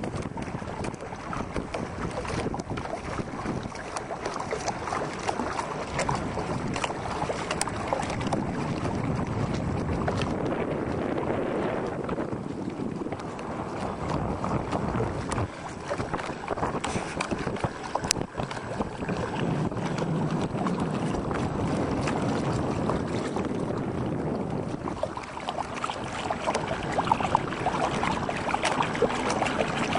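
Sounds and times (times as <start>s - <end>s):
water splashing along boat hull: 0.0s - 29.9s
wind buffeting microphone: 0.0s - 29.9s.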